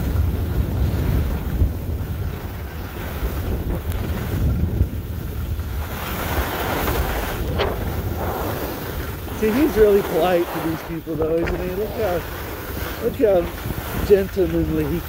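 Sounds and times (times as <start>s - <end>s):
skis sliding over snow: 0.0s - 15.0s
wind buffeting microphone: 0.0s - 15.0s.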